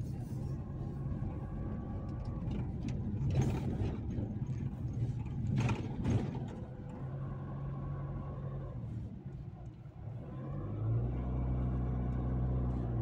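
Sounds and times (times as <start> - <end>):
diesel engine hum: 0.0 - 13.0
road noise: 0.0 - 13.0.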